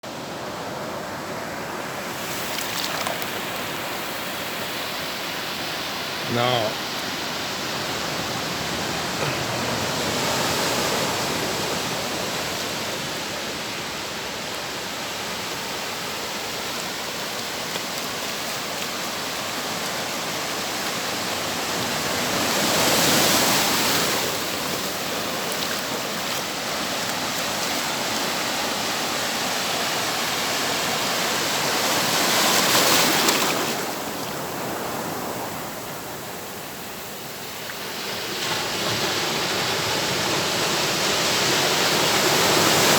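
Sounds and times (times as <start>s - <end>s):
ocean surf washing ashore: 0.1s - 42.9s.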